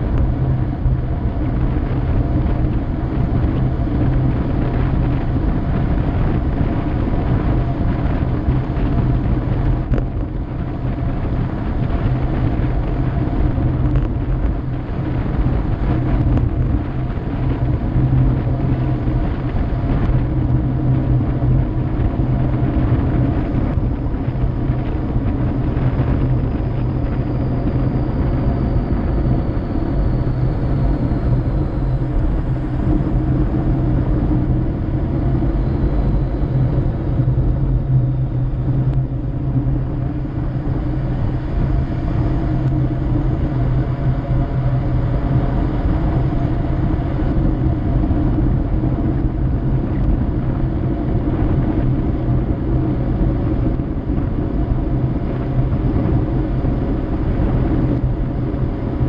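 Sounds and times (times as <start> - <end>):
bicycle tyre rumble on asphalt: 0.0 - 59.0
wind on microphone: 0.0 - 59.0.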